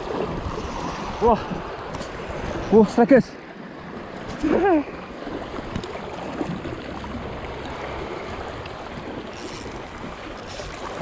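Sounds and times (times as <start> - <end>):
sea water lapping on rocks: 0.0 - 11.0.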